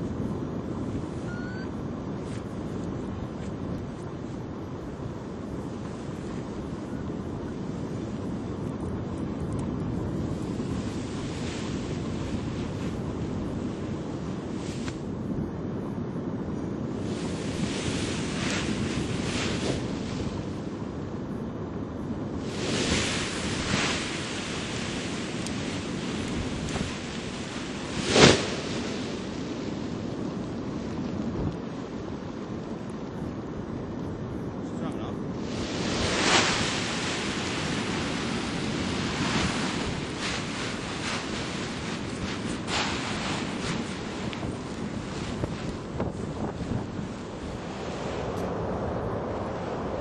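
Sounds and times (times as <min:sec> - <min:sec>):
strong wind on microphone: 0:00.0 - 0:50.0.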